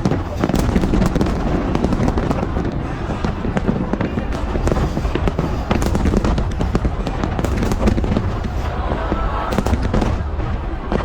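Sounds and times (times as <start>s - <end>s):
fireworks bangs and crackles: 0.0s - 11.0s
low rumble of fireworks booms: 0.0s - 11.0s.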